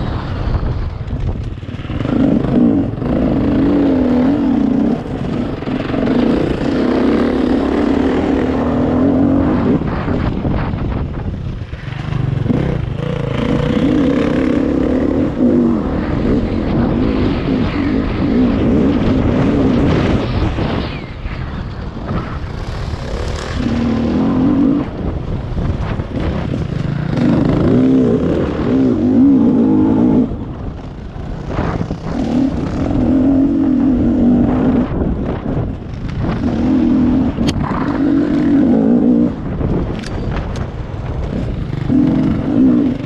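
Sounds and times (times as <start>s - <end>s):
two-stroke motorcycle engine revving: 1.6s - 10.4s, 11.9s - 20.3s, 22.6s - 40.2s, 41.2s - 43.0s.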